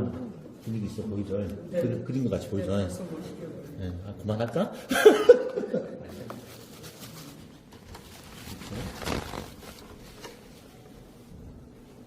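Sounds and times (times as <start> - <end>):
faint voices in a room: 0.0 - 12.0.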